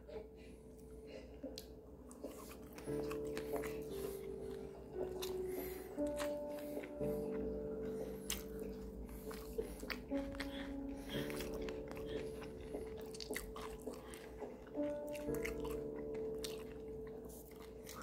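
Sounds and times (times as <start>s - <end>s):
chewing and crunching food: 0.0s - 18.0s
soft background music: 0.0s - 18.0s.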